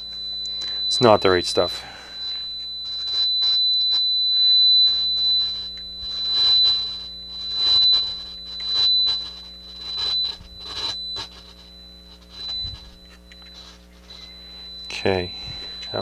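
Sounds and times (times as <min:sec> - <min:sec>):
steady high-pitched tone: 0:00.0 - 0:16.0.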